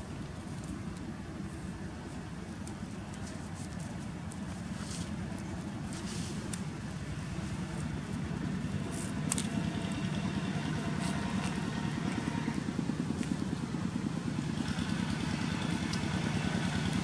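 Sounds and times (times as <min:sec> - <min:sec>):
engine running low rumble: 0:00.0 - 0:17.0.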